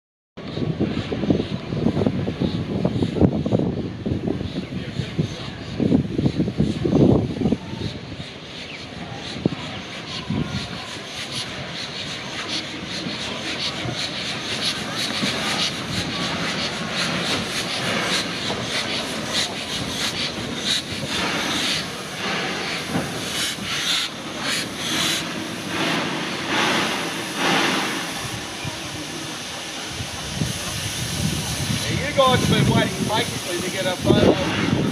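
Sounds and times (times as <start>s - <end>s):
steam locomotive exhaust beats: 0.4s - 34.9s
steam hissing: 0.7s - 34.9s.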